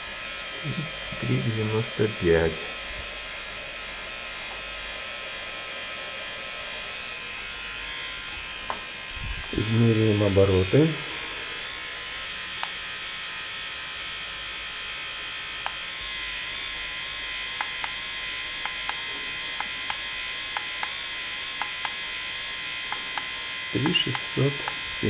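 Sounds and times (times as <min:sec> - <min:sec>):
electric motor whining: 0:00.0 - 0:13.6, 0:15.4 - 0:25.0.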